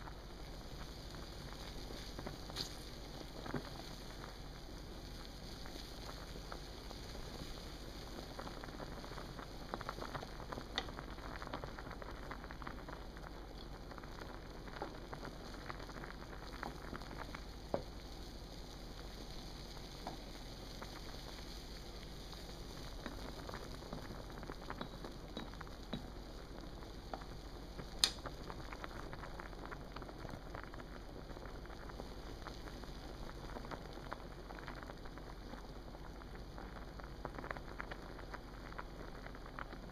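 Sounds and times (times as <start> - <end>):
water boiling in a pot: 0.0 - 39.9.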